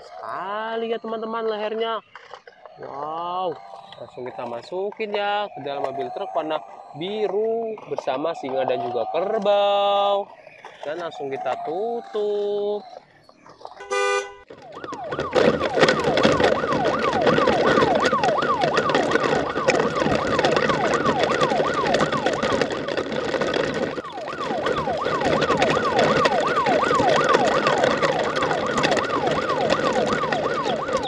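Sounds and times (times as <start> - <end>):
siren wailing: 0.0 - 31.0.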